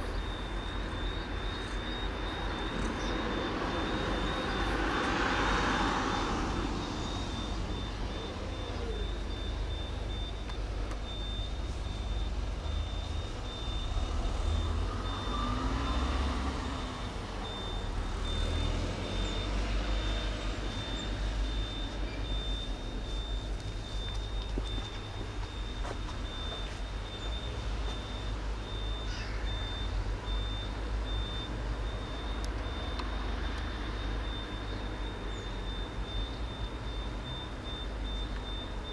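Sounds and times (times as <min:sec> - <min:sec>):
high-pitched beep: 0:00.0 - 0:38.9
motor vehicle rumble: 0:00.0 - 0:38.9.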